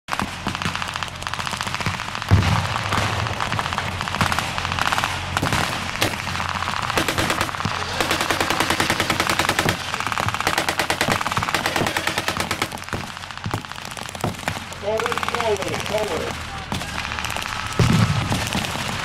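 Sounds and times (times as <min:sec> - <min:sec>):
machine-gun fire: 0:00.1 - 0:19.0
tank engine hum: 0:00.1 - 0:19.0
heavy bang: 0:01.7 - 0:19.0.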